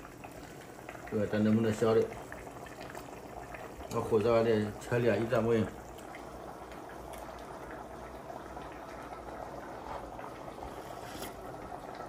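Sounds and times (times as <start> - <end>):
soup bubbling: 0.0 - 12.0.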